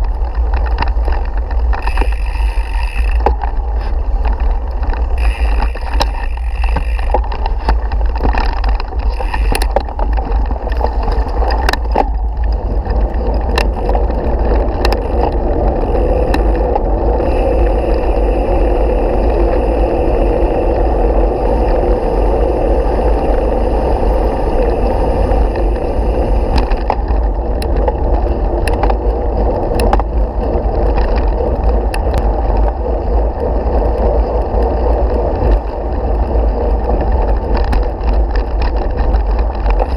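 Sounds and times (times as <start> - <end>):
bike clicks and rattles: 0.0 - 39.9
bike tyres on gravel road: 0.0 - 39.9
wind on microphone: 0.0 - 39.9.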